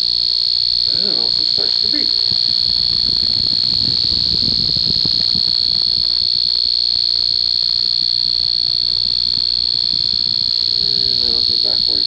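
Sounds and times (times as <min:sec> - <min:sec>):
continuous high-pitched beeper tone: 0:00.0 - 0:12.0.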